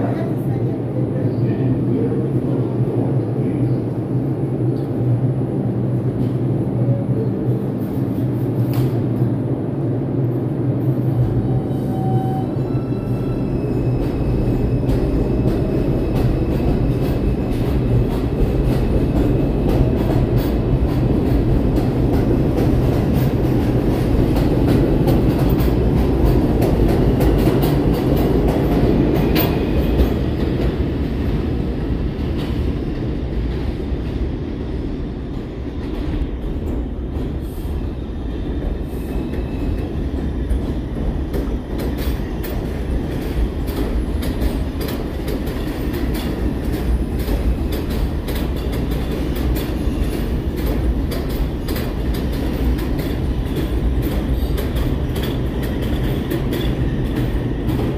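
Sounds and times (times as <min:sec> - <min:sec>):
train wheels rumbling on rails: 0:00.0 - 0:57.9
clickety-clack over rail joints: 0:07.7 - 0:09.5, 0:11.2 - 0:57.9.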